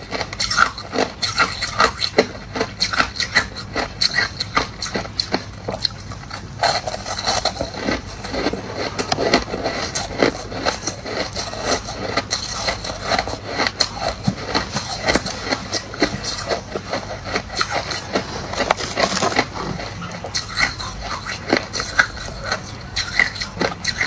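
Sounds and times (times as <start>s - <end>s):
crushed ice being chewed: 0.0s - 24.0s.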